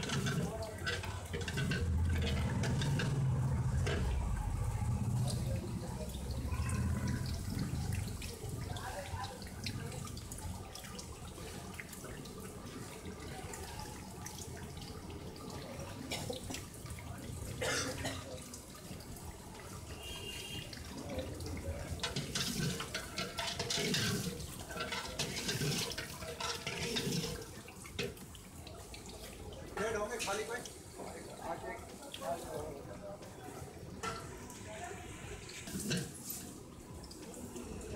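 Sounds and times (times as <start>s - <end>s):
liquid sloshing in metal pot: 0.0s - 17.0s, 18.6s - 32.0s, 35.4s - 37.6s.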